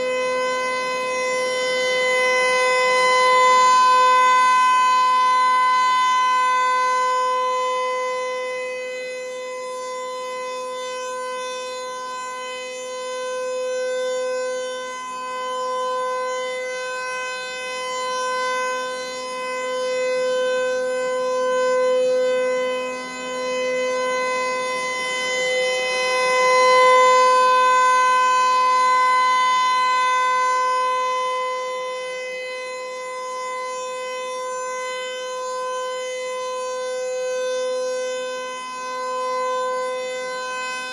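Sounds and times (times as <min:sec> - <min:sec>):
rotating warning siren steady tone: 0:00.0 - 0:40.9.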